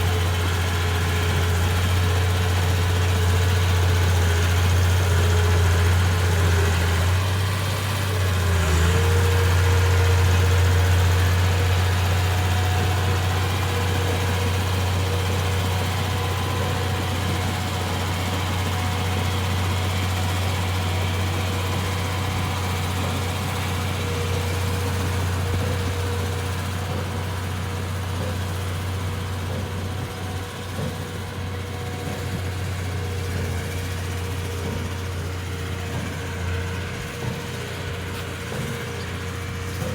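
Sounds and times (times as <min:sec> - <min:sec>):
diesel engine deep drone: 0:00.0 - 0:39.9
engine whine: 0:00.0 - 0:39.9.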